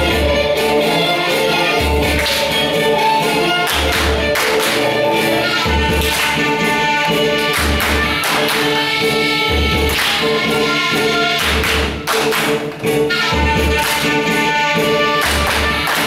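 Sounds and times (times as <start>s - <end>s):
folk dance music: 0.0s - 16.0s
hand claps: 2.0s - 2.8s, 3.5s - 16.0s.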